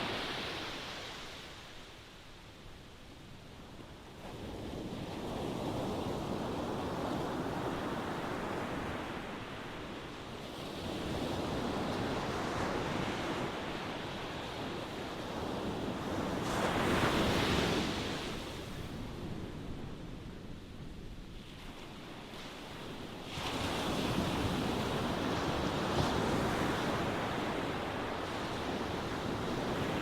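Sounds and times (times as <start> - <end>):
ocean waves breaking on shore: 0.0 - 2.4, 3.6 - 30.0.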